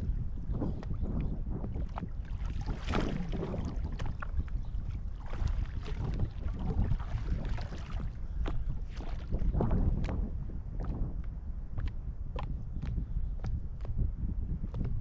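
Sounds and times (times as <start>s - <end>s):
water splashing against hull: 0.0s - 14.0s
wind buffeting microphone: 0.0s - 15.0s.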